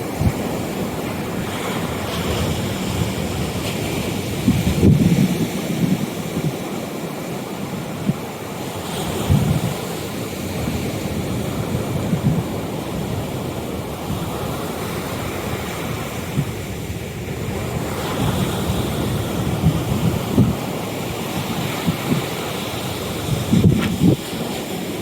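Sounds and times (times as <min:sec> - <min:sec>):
sea waves splashing: 0:00.0 - 0:25.0
wind buffeting microphone: 0:00.0 - 0:25.0.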